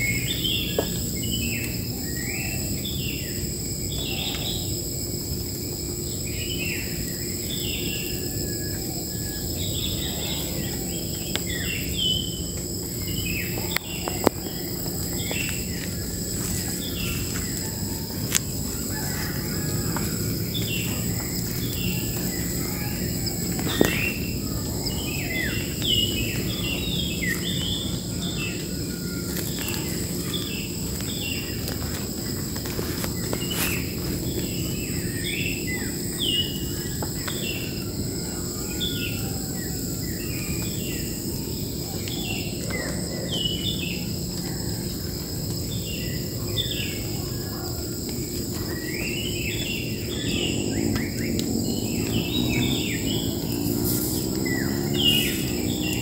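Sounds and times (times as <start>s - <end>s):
high-pitched insect drone: 0.0s - 56.0s
wild birds chirping: 0.0s - 56.0s.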